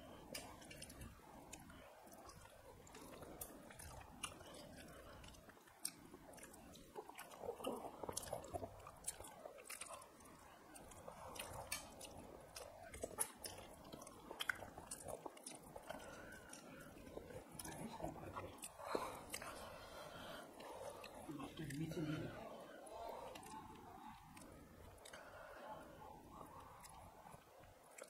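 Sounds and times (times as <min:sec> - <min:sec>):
chewing and lip smacking: 0:00.3 - 0:22.1, 0:22.8 - 0:28.0.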